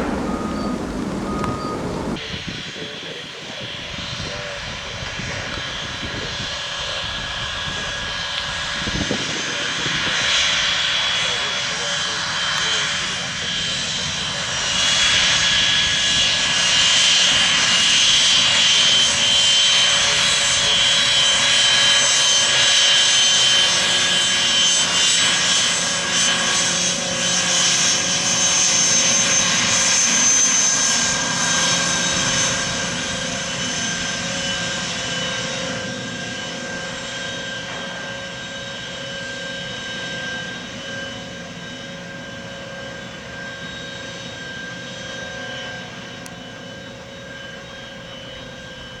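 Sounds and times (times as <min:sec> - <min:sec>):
airplane engines running: 0:00.0 - 0:49.0
steady engine whine: 0:00.0 - 0:49.0.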